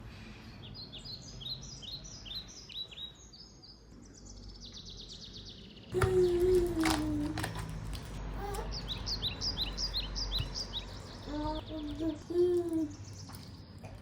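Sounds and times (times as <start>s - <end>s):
small birds chirping: 0.4s - 14.0s.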